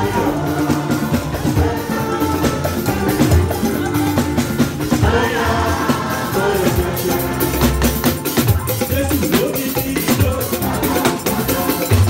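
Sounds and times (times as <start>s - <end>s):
drums and percussion: 0.0s - 12.0s
voices singing gospel: 0.0s - 12.0s.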